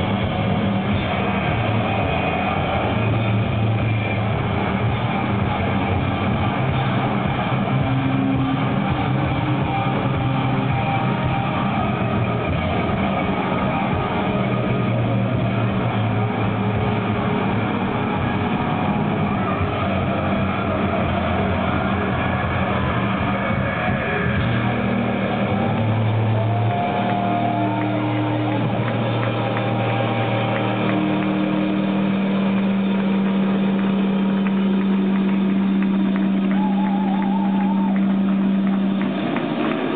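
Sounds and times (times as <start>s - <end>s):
bass guitar: 0.0s - 39.9s
distorted electric guitars: 0.0s - 39.9s
drums: 0.0s - 39.9s.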